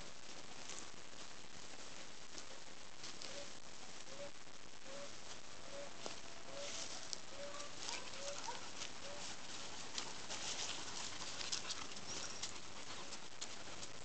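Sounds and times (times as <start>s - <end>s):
rustling in dry leaves: 0.0s - 14.0s.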